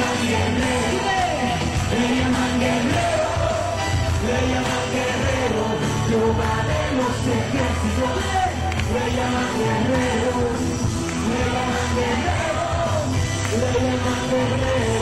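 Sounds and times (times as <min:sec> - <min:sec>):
band accompaniment: 0:00.0 - 0:15.0
congregation singing: 0:00.0 - 0:15.0.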